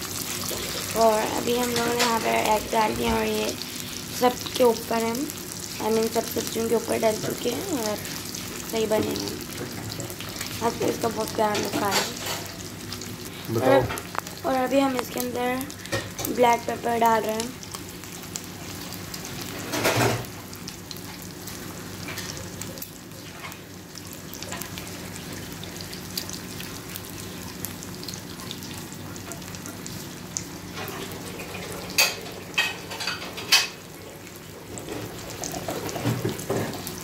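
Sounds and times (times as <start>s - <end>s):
eggs sizzling in a frying pan: 0.0s - 37.0s.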